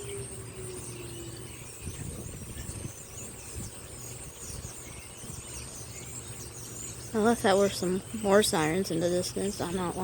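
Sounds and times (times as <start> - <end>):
birds chirping: 0.0 - 10.0
high insect buzz: 0.0 - 10.0
low mechanical hum: 0.0 - 10.0.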